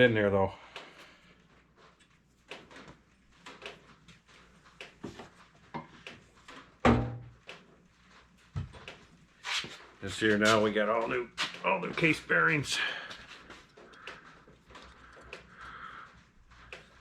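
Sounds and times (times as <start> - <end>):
light clicks and knocks of parts: 0.6 - 17.0.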